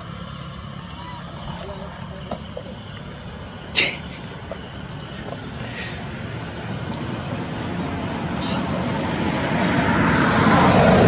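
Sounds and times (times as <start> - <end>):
insect drone: 0.0 - 11.0
low engine rumble: 0.0 - 11.0.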